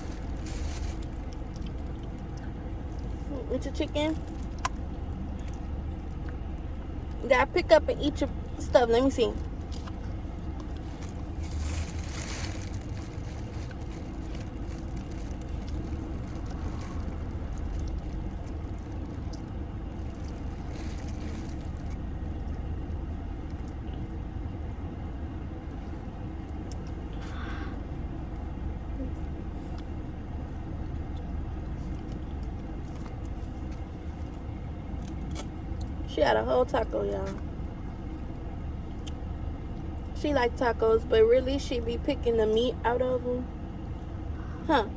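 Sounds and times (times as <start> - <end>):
car idling: 0.0 - 44.9.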